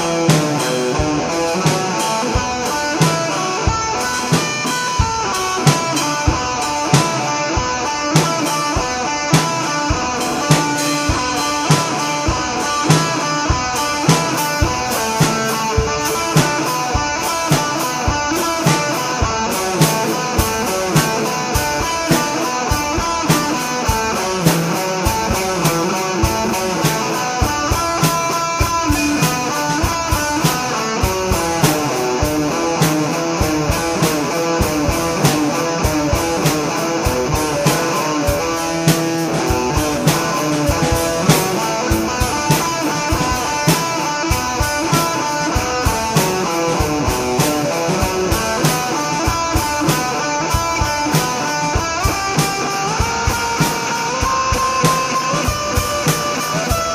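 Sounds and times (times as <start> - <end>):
drum kit beat: 0.0 - 56.9
electric guitar: 0.0 - 56.9.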